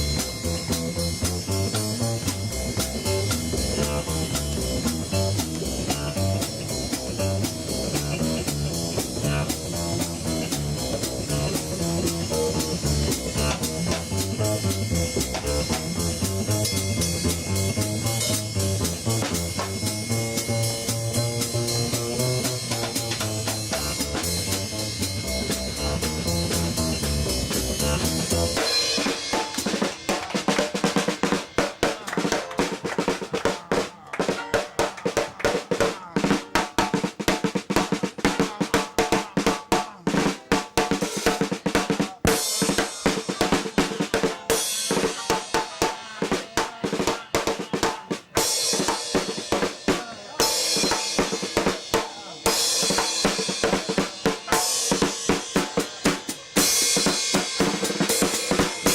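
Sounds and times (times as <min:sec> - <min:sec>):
band playing: 0:00.0 - 0:58.9
drum solo: 0:00.0 - 0:58.9.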